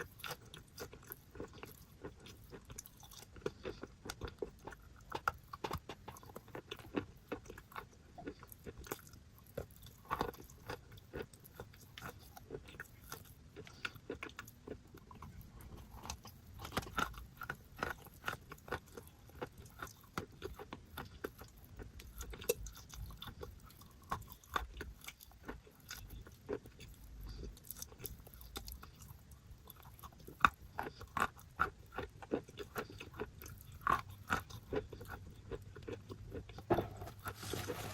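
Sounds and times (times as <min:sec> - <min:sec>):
chewing crunchy chalk: 0:00.0 - 0:37.9.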